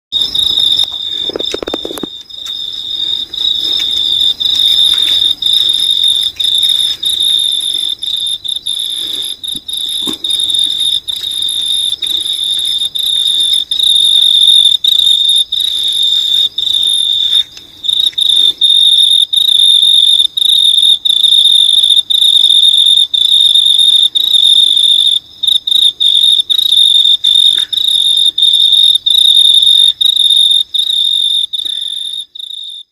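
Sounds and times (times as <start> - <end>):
insect trilling: 0.2 - 32.9.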